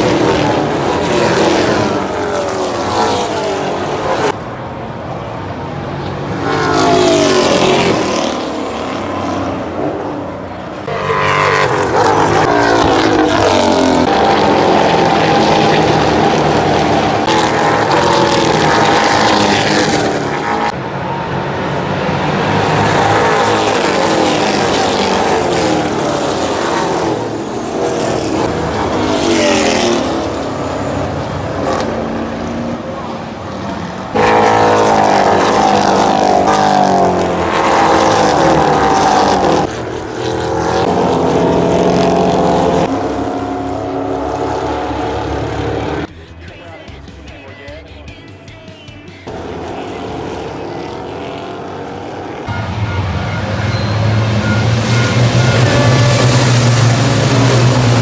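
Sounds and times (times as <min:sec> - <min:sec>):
racing engines passing at speed: 0:00.0 - 0:46.2, 0:49.2 - 0:58.0.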